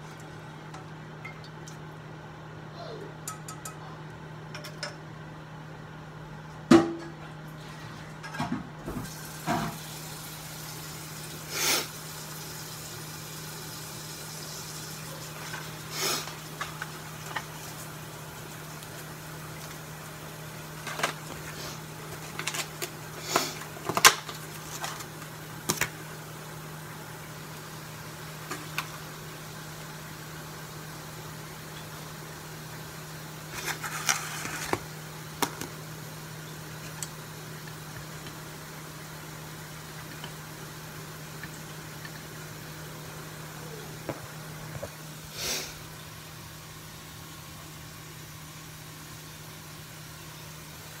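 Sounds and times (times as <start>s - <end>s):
kitchen appliance humming: 0.0s - 51.0s.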